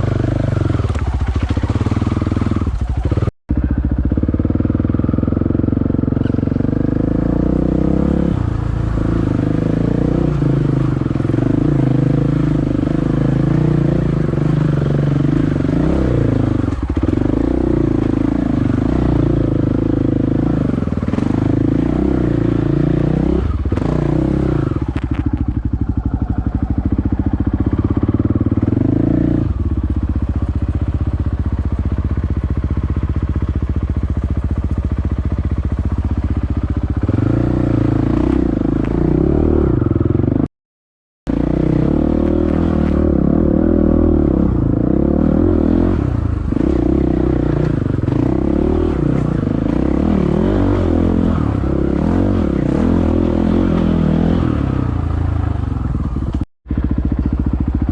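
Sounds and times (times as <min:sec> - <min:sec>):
dirt bike engine running: 0:00.0 - 0:40.5, 0:41.3 - 0:57.9.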